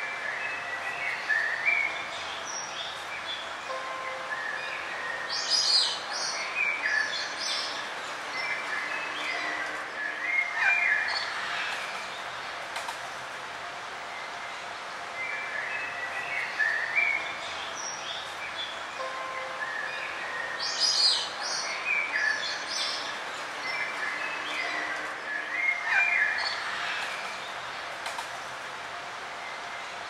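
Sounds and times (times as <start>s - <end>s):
songbirds chirping and singing: 0.0s - 30.0s
steady background hiss: 0.0s - 30.0s.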